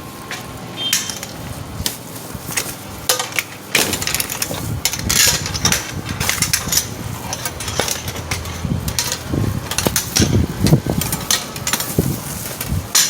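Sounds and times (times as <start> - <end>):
fabric rustling: 1.2 - 13.0
metal rods knocking and clinking: 2.5 - 13.0.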